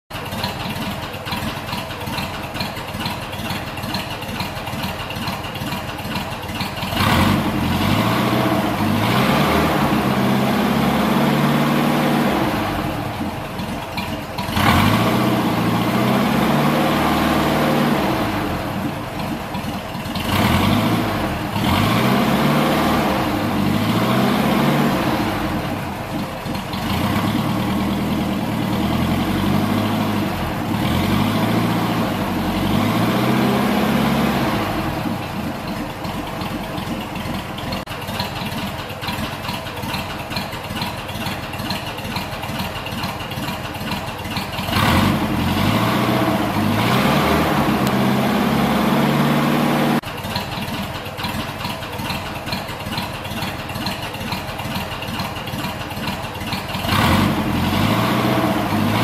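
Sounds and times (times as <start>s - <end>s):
car engine idling and revving: 0.1s - 59.0s.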